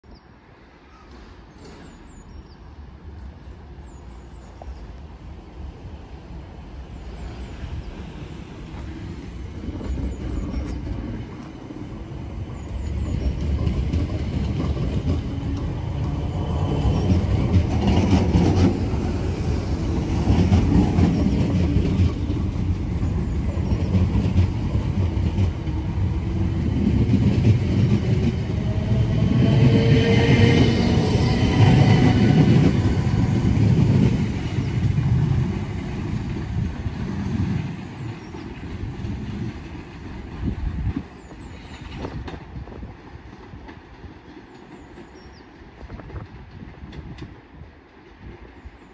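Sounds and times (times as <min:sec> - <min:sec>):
electric train passing on rails: 0:00.2 - 0:48.9.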